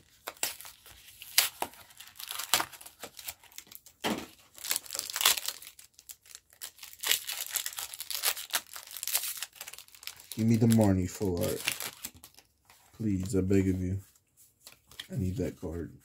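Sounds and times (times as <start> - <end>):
foil wrapper crinkling and tearing: 0.0 - 13.4.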